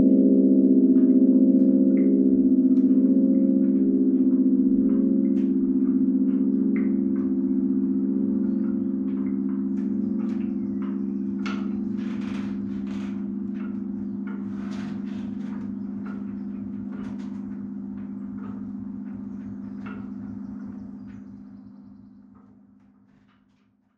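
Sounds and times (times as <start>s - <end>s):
church bells humming: 0.0s - 22.5s
light clicks and knocks from bells: 1.0s - 22.6s.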